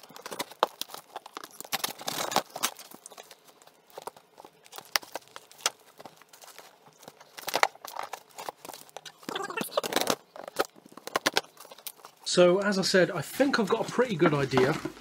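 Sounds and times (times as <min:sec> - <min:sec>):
packing tape tearing off cardboard: 0:00.0 - 0:12.2.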